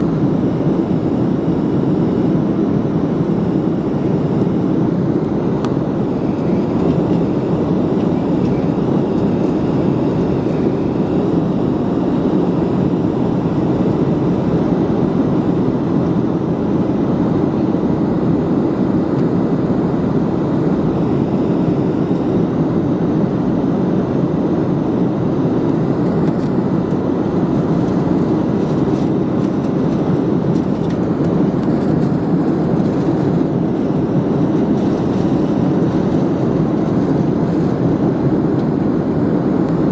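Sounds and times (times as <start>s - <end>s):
airliner cabin jet engine roar: 0.0s - 39.9s.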